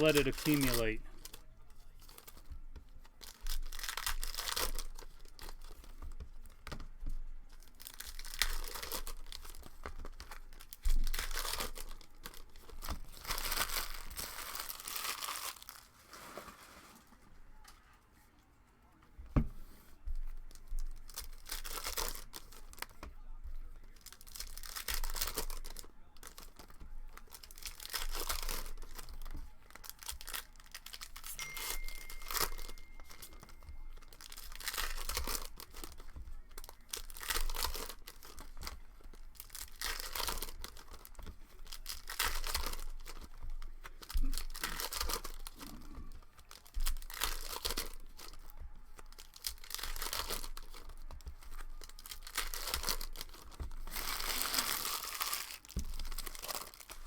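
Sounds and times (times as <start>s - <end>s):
foil wrappers tearing and crinkling: 0.0s - 6.9s, 7.5s - 17.0s, 20.5s - 23.0s, 23.8s - 57.0s.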